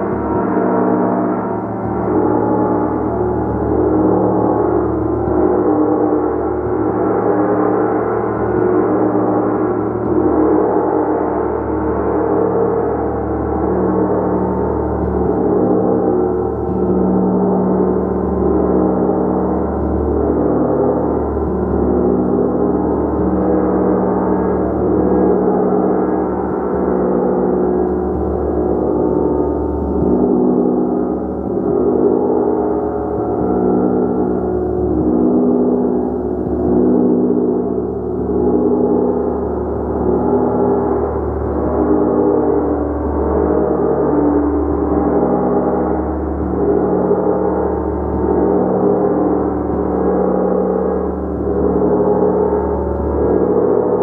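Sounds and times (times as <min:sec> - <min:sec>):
gong ringing continuously: 0:00.0 - 0:54.0.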